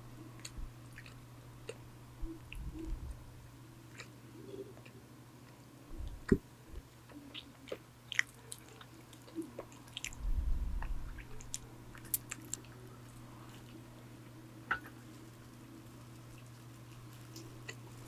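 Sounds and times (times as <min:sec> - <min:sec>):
electric fan humming: 0:00.0 - 0:18.0
chewing: 0:00.4 - 0:03.2, 0:03.8 - 0:06.2, 0:06.8 - 0:10.2, 0:10.8 - 0:18.0.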